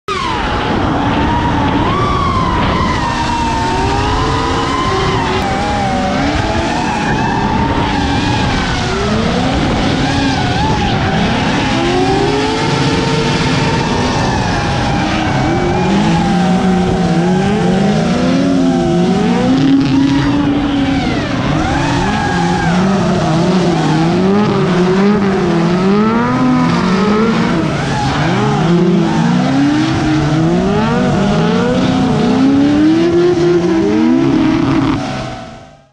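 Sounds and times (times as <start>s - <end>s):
car engines revving: 0.1s - 35.9s.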